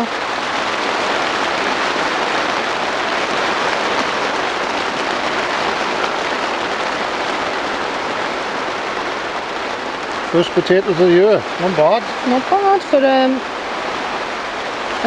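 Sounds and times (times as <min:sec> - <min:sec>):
hail on plastic sheeting: 0:00.0 - 0:15.0.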